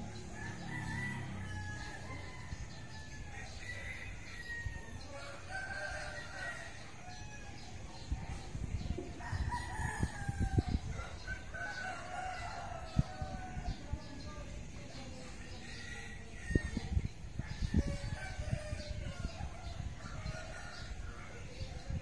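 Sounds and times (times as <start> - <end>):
roosters crowing: 0.0 - 7.8, 9.2 - 14.2, 15.4 - 21.7.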